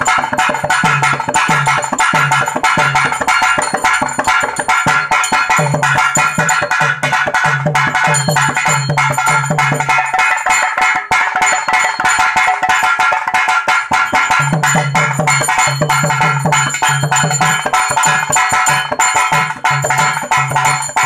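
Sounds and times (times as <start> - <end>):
hand drums in a fast rhythm: 0.0 - 21.0.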